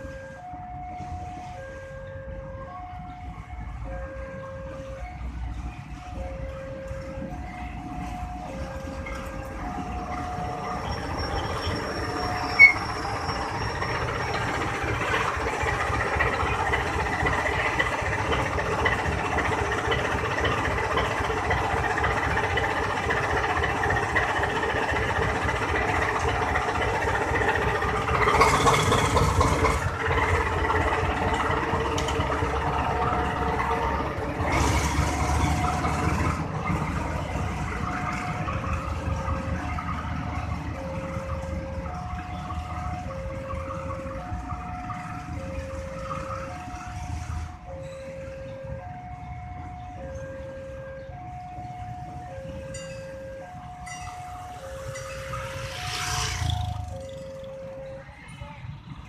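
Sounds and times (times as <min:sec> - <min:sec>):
train wheels on rails: 0:00.0 - 0:50.2, 0:51.1 - 0:59.0.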